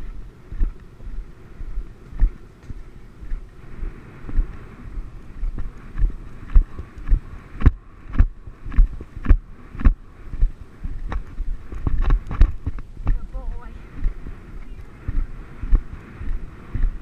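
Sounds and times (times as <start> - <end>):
horse hoofbeats on grass: 0.0 - 17.0
wind on microphone: 0.0 - 17.0.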